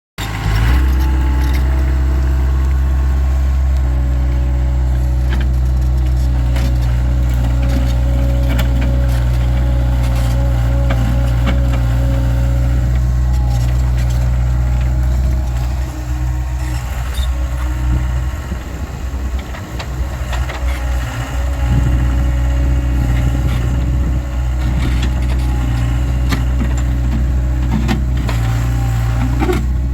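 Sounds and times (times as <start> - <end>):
diesel engine running: 0.2 - 29.9.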